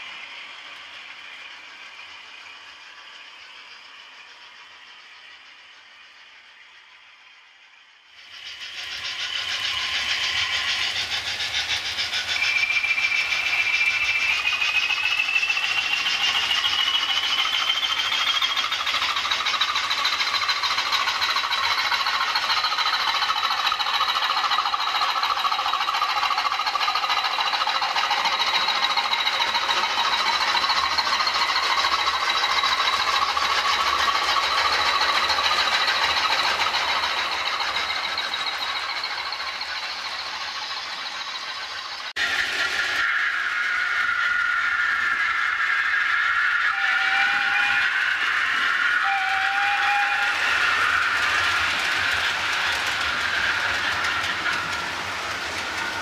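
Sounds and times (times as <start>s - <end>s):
model train wheels rattling: 0.0s - 56.0s.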